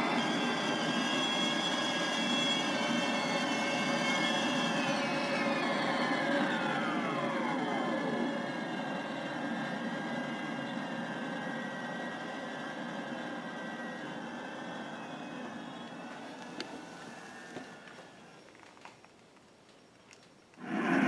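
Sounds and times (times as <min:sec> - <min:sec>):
jet engine whine falling in pitch: 0:00.0 - 0:18.5, 0:20.6 - 0:21.0
engine hum: 0:00.0 - 0:21.0.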